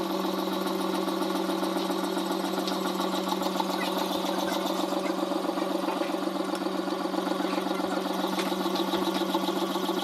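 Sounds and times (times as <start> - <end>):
metal lathe running: 0.0 - 10.0.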